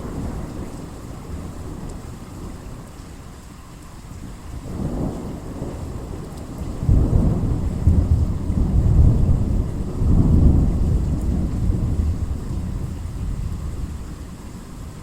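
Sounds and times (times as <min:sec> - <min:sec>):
thunder rumbling: 0:00.0 - 0:02.9, 0:04.2 - 0:14.7
rain hissing: 0:00.0 - 0:15.0.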